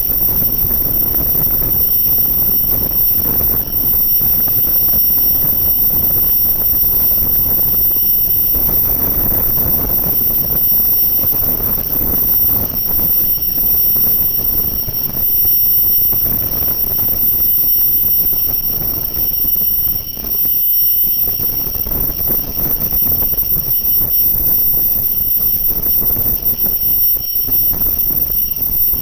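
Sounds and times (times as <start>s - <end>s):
machine whining high-pitched: 0.0s - 29.0s.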